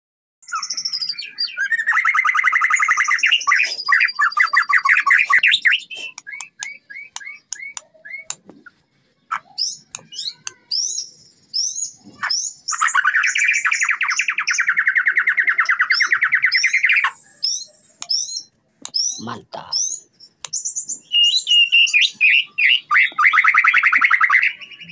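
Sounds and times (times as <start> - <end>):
songbird singing trills and whistles: 0.4 - 24.9.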